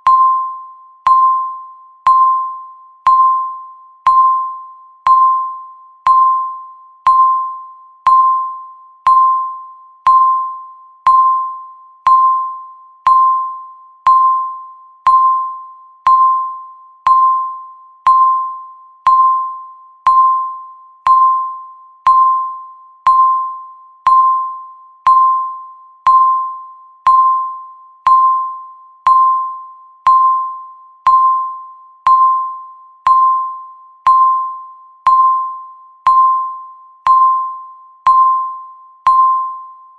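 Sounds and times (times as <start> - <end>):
timer tick beeps: 0.0 - 39.9.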